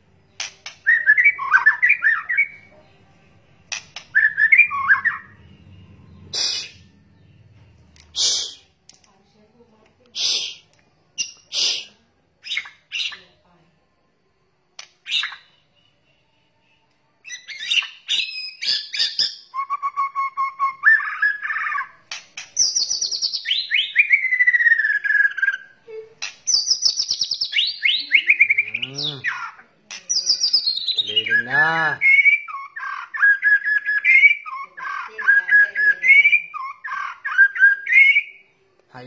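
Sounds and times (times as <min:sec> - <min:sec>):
songbird singing whistles and trills: 0:00.0 - 0:08.8, 0:10.2 - 0:13.4, 0:14.8 - 0:38.8.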